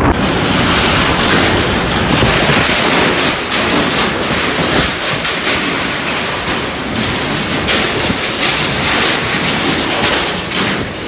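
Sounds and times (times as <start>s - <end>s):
sharp crackles: 0.0s - 11.0s
strong wind roaring in gusts: 0.0s - 11.0s.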